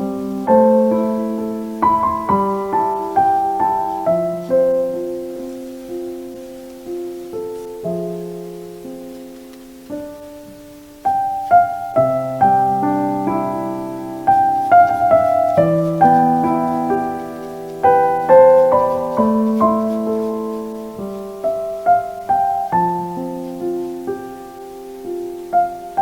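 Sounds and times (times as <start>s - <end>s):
soft piano music: 0.0s - 26.0s.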